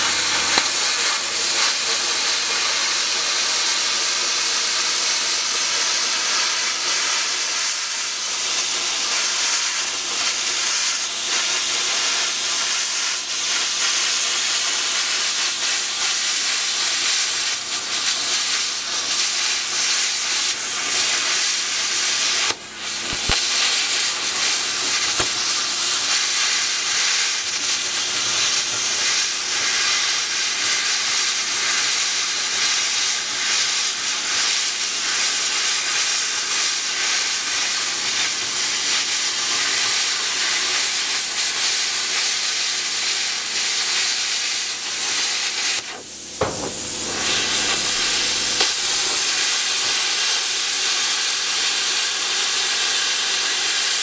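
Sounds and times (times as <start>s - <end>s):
plasma cutter hissing: 0.0s - 54.0s.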